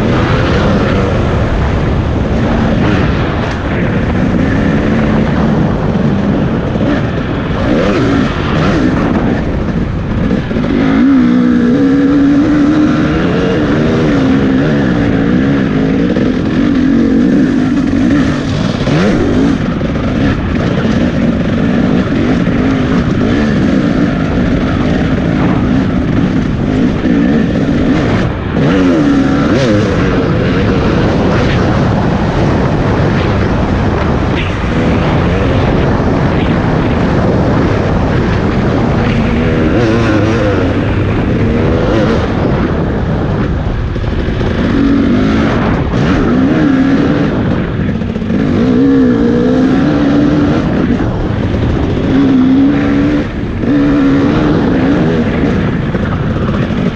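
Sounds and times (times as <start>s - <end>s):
continuous rushing noise: 0.0s - 56.9s
motorcycle engine revving: 0.0s - 56.9s.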